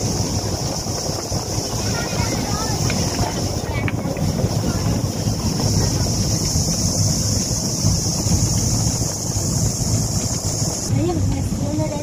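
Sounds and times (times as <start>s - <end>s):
high-pitched hiss: 0.0s - 10.9s
wind rumbling on microphone: 0.0s - 12.0s.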